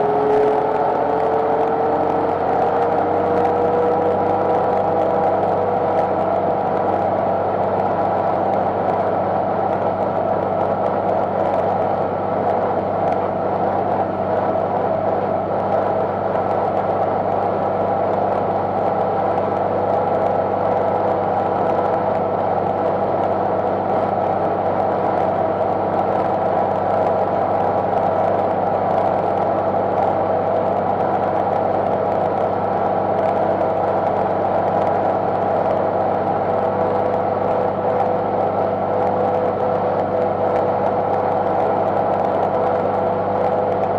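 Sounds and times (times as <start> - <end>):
tractor engine running steadily: 0.0 - 43.9.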